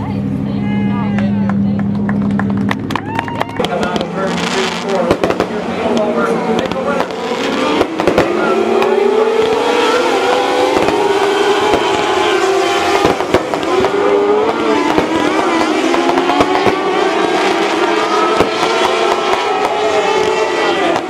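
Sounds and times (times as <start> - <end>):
race car engines revving: 0.0 - 21.0
engine pops and crackles: 1.1 - 12.2, 12.8 - 21.0.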